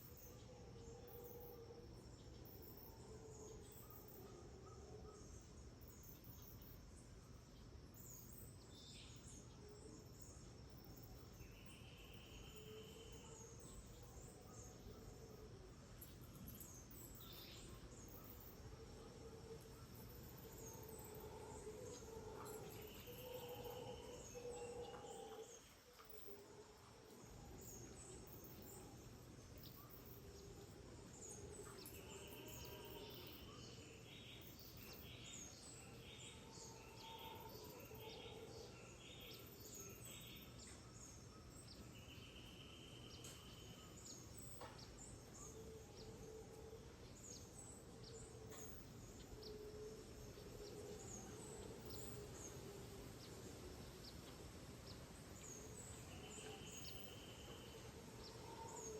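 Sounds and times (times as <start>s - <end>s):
birds chirping and trilling: 0.0s - 58.9s
insects: 0.0s - 58.9s
steady background hiss: 0.0s - 58.9s.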